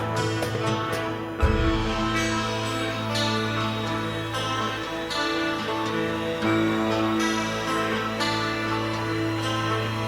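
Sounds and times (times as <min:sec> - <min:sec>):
soft plucked guitar music: 0:00.0 - 0:10.0.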